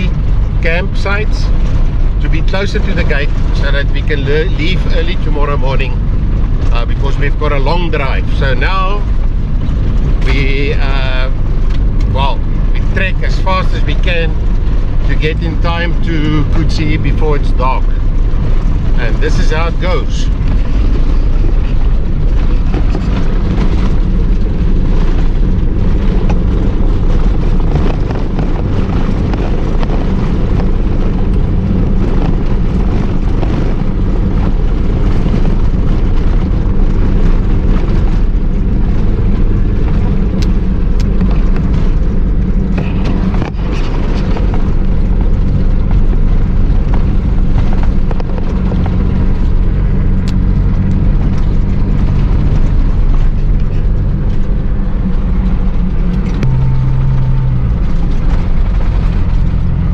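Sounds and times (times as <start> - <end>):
vehicle engine running hard: 0.0 - 59.9
vehicle knocks and rattles: 0.0 - 59.9.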